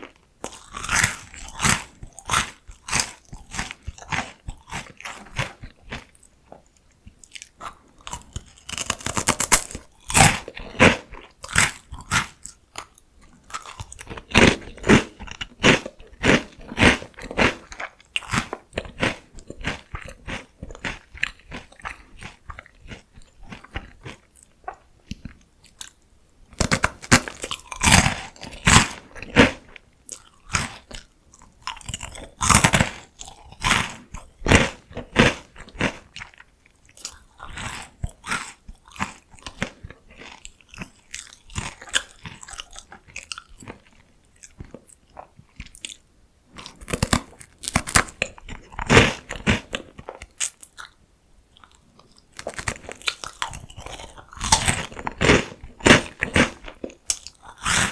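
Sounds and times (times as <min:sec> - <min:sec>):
crunching potato sticks: 0:00.0 - 0:57.9.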